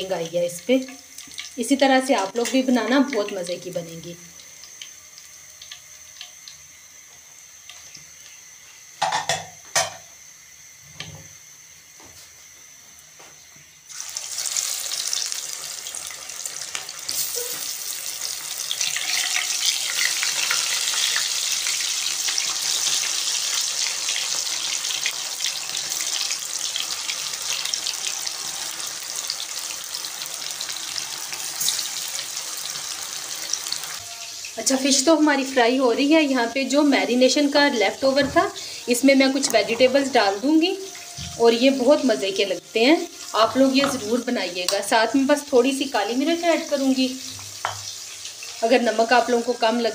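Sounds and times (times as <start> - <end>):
fish deep-frying in hot oil: 0.0 - 11.9, 13.8 - 49.9.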